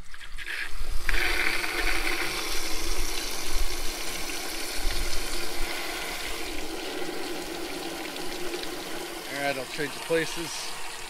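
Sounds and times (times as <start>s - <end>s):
hose water rushing and pouring: 0.0s - 11.0s.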